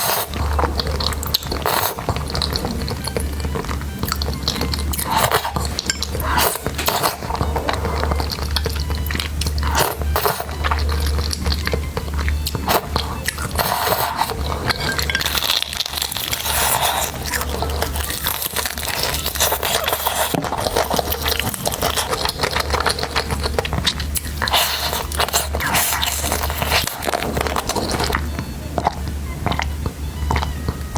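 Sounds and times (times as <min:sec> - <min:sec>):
crunchy bites and chewing: 0:00.0 - 0:29.7.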